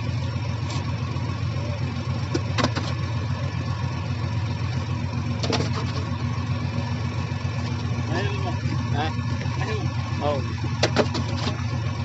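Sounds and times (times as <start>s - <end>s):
large engine rumbling: 0.0s - 12.0s.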